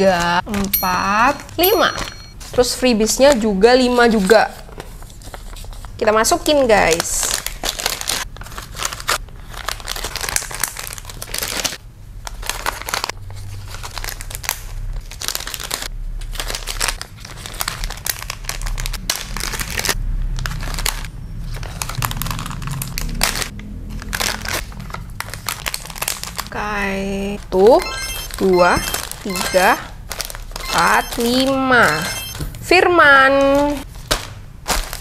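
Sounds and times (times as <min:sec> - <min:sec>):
plastic bags crinkling: 0:00.0 - 0:32.0, 0:33.1 - 0:35.0.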